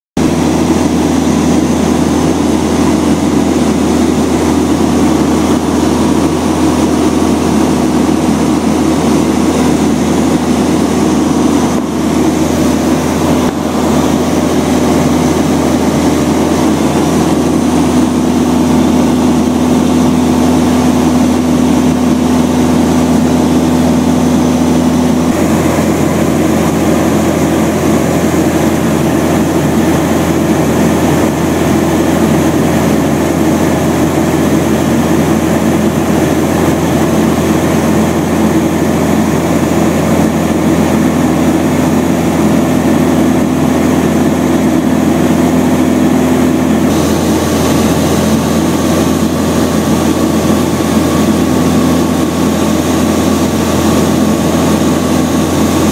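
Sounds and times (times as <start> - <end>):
propeller aircraft engine droning: 0.1 - 55.9.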